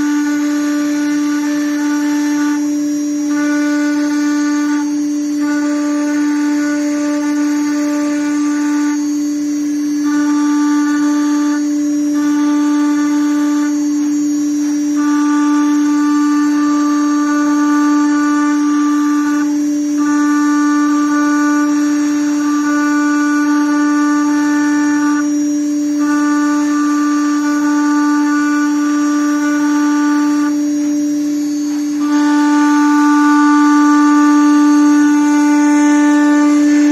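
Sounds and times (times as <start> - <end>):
high cutting tone: 0.0 - 36.9
router spindle whine: 0.0 - 36.9.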